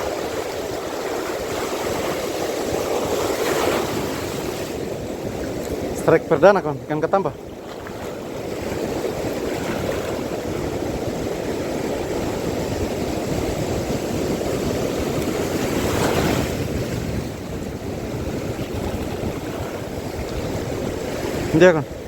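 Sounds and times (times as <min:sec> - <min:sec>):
sea waves rushing: 0:00.0 - 0:22.0
wind buffeting microphone: 0:00.0 - 0:22.0.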